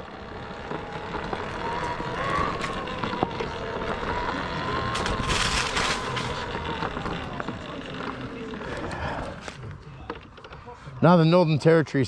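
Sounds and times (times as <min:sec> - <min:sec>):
electric motor whine: 0:00.0 - 0:09.8
tyre noise: 0:00.0 - 0:11.2.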